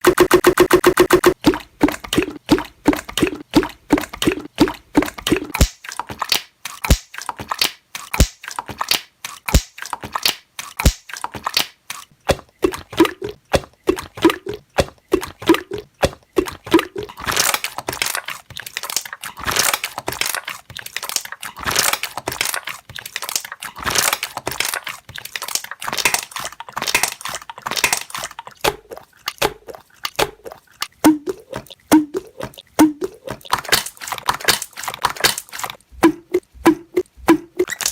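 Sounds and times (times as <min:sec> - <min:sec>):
slime popping air bubbles: 0:00.0 - 0:37.9.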